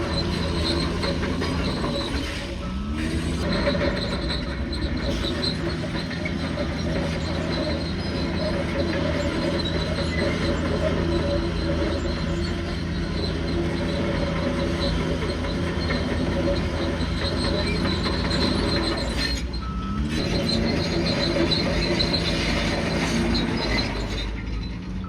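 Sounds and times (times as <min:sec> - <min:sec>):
bulldozer diesel engine: 0:00.0 - 0:25.0
steel tracks squealing: 0:00.0 - 0:25.0.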